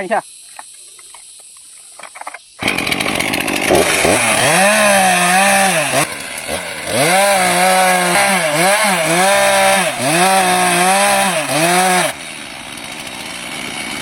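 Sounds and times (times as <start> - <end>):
chainsaw cutting into tree: 2.6 - 14.0.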